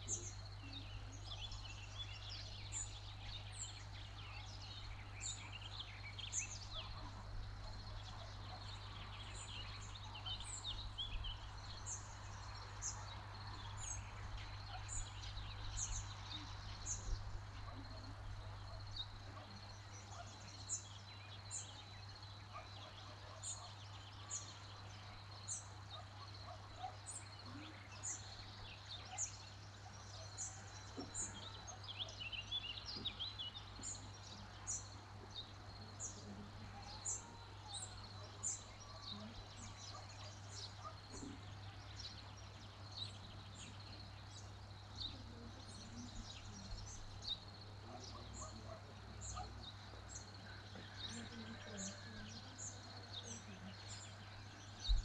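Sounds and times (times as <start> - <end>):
songbirds calling: 0.0 - 55.0.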